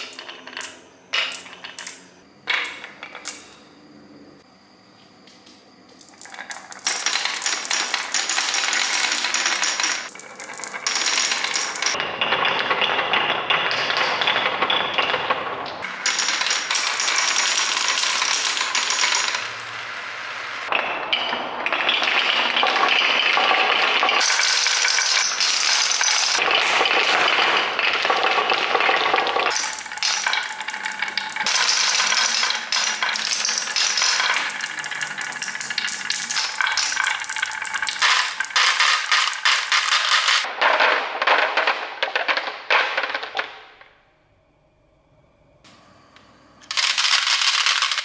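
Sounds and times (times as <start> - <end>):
glass marbles rolling and clattering: 0.0 - 3.5, 5.9 - 19.8, 20.6 - 43.6.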